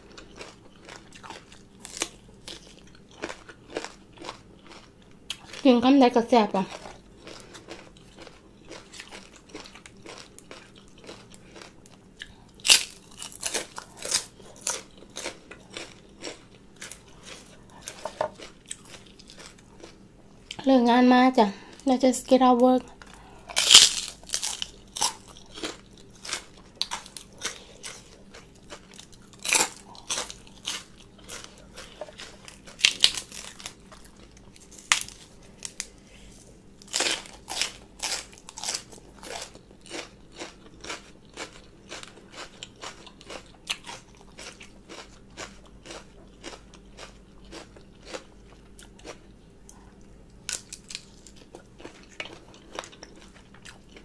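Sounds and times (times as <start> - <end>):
person chewing crunchy food: 0.0 - 5.7, 6.6 - 20.6, 22.9 - 54.0.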